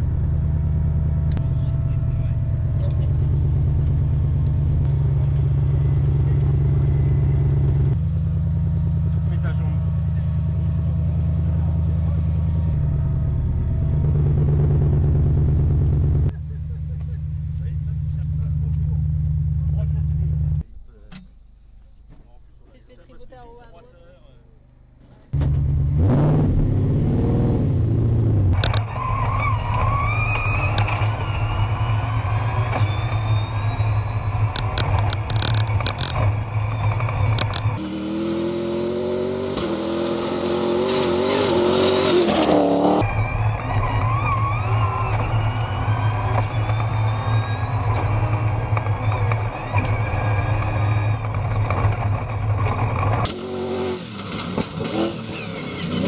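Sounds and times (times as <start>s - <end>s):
car engine accelerating: 0.0s - 20.6s, 25.3s - 56.0s.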